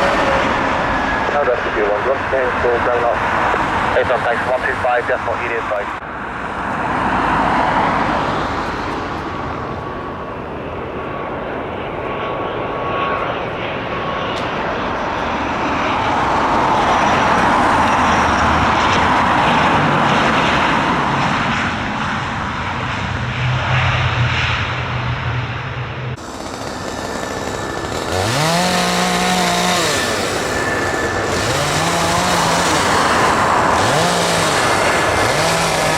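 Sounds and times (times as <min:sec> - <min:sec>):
jet engines roaring: 0:00.0 - 0:35.9.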